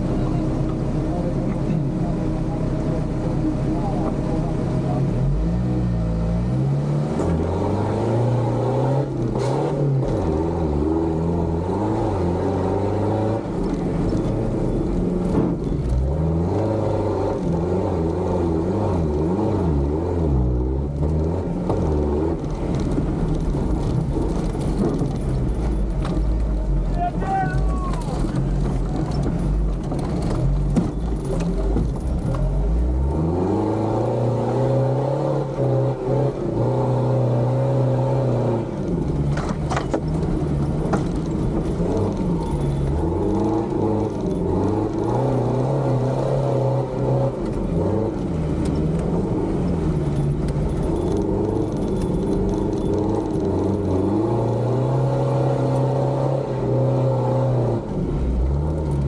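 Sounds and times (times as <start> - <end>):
off-road truck engine revving: 0.0 - 59.0.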